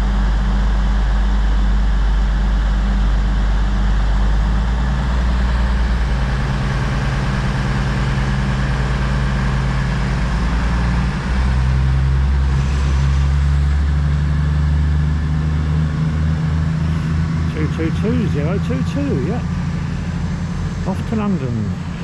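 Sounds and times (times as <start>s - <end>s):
train diesel engines droning: 0.0s - 22.0s.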